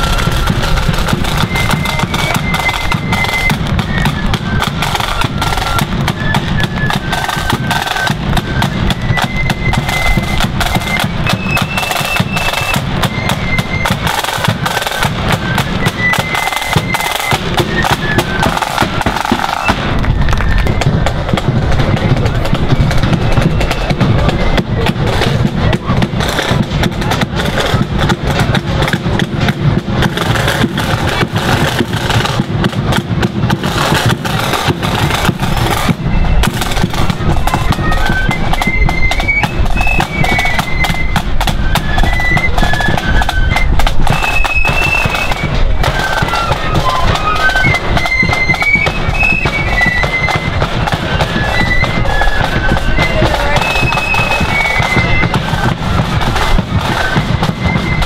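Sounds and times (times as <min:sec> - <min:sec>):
high flute melody: 0:00.0 - 0:58.0
side drums and bass drum march: 0:00.0 - 0:58.0.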